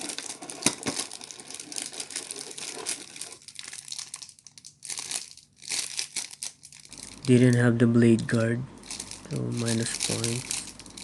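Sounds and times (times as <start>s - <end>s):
packaging crinkling and rustling: 0.0s - 7.7s, 8.8s - 11.0s.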